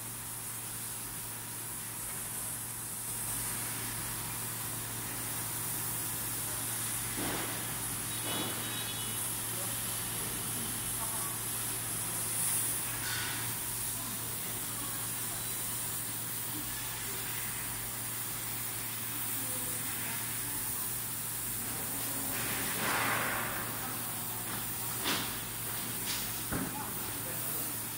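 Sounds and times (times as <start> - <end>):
laser cutter gas jet hissing: 0.0 - 27.9.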